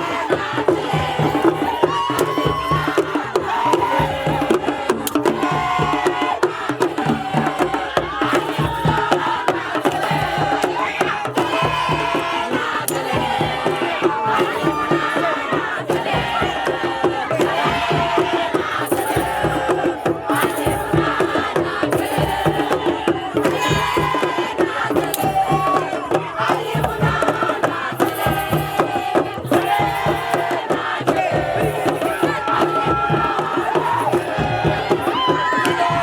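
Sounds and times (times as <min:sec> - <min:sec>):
crowd chanting and singing: 0:00.0 - 0:36.0
fast rhythmic beat: 0:00.0 - 0:36.0.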